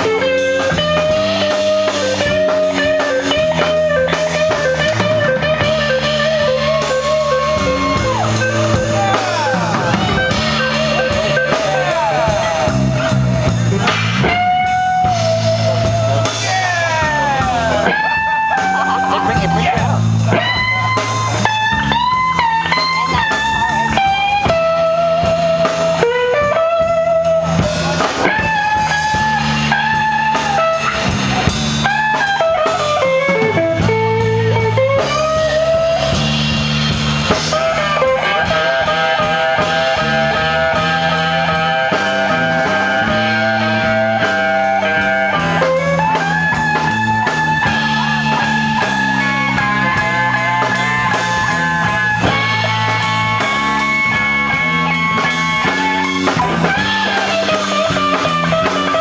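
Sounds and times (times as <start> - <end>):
drum kit: 0.0 - 59.0
electric guitar lead lines: 0.0 - 59.0
walking bass: 0.0 - 59.0.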